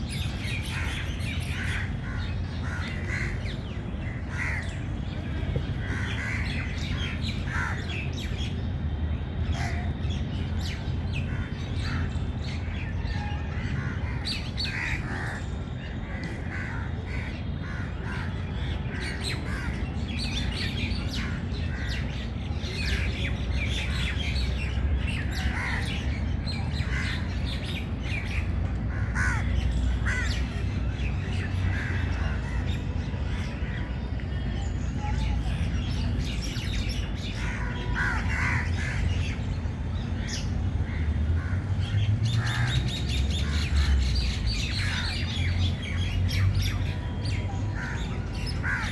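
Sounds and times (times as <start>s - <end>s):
birds calling and chirping: 0.0s - 48.9s.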